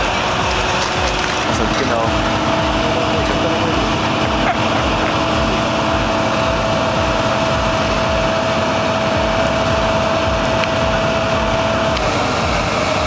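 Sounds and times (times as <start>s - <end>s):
diesel engine rumble: 0.0s - 13.0s
steady high whine: 0.0s - 13.0s.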